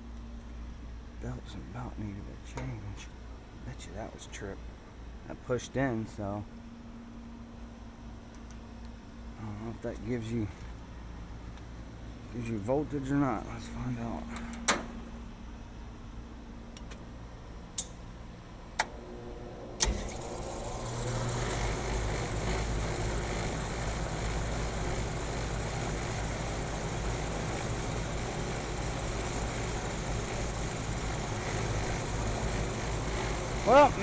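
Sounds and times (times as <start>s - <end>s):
air conditioner fan humming: 0.0s - 34.0s.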